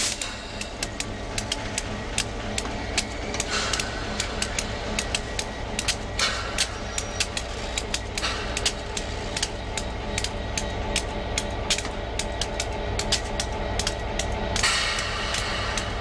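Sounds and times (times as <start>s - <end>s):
diesel locomotive droning: 0.0s - 16.0s
sharp clicks: 0.0s - 16.0s.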